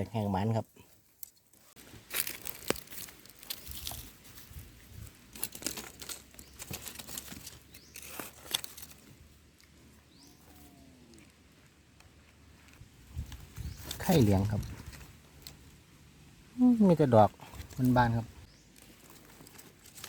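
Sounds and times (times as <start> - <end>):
dry leaves rustling and crackling: 1.0 - 11.2, 12.6 - 15.8, 16.6 - 20.0.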